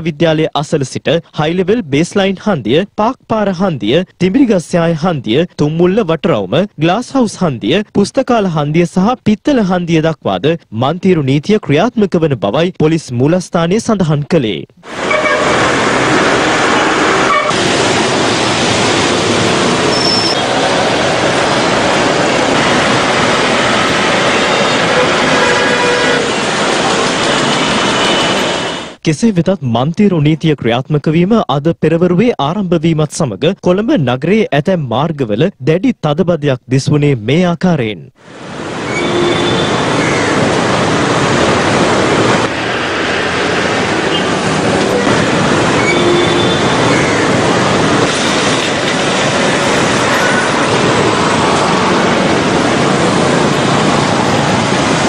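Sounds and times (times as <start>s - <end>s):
dense road traffic: 0.0s - 29.1s, 38.1s - 55.0s.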